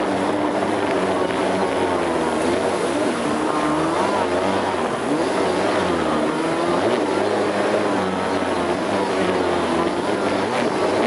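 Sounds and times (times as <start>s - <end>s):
jet ski engine running: 0.0s - 11.0s
steady rushing noise: 0.0s - 11.0s.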